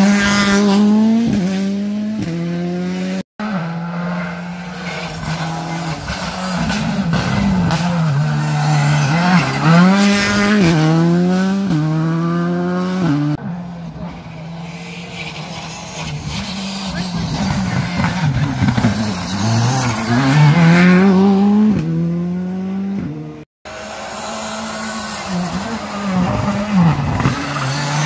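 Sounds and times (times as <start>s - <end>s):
distant rally car engine: 0.0s - 28.0s
rally car engine accelerating: 0.0s - 28.0s.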